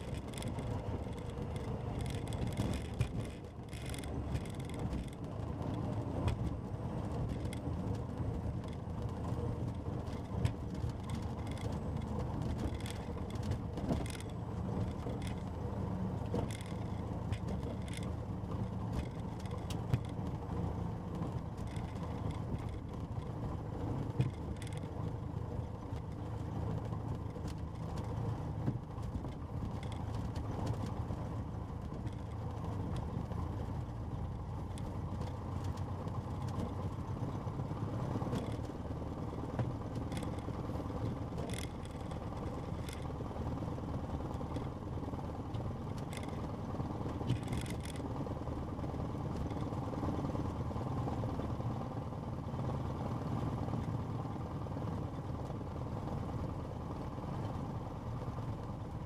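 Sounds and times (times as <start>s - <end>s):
light aircraft engine and propeller: 0.0s - 59.0s.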